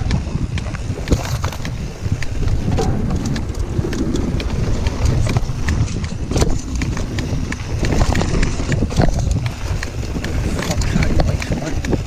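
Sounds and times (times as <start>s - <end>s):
bike rattling clatter: 0.0s - 12.0s
bike tyres rumbling over planks: 0.0s - 12.0s.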